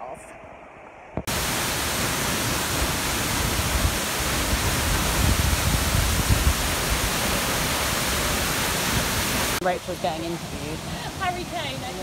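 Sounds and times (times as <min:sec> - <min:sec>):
waterfall crashing onto rocks: 0:01.2 - 0:12.0.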